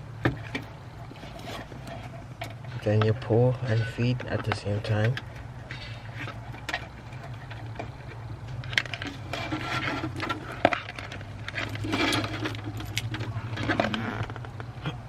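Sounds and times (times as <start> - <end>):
low steady hum: 0.0 - 15.0
plastic and wire rustling and scraping: 0.2 - 14.9.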